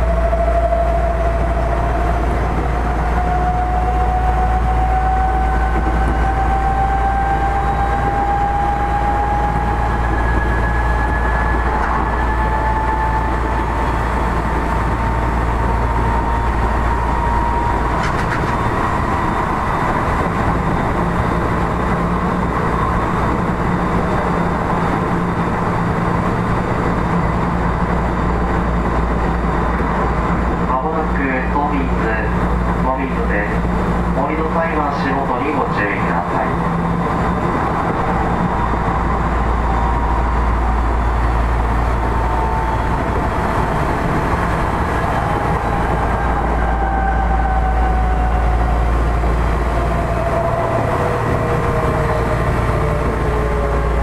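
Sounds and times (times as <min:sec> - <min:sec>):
electric train traction whine: 0:00.0 - 0:54.0
rail noise: 0:00.0 - 0:54.0.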